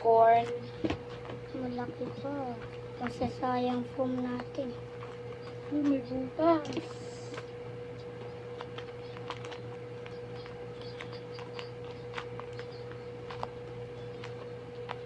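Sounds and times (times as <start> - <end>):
paper and foam crinkling: 0.0 - 7.5, 8.4 - 15.0
steady hum: 0.0 - 15.0.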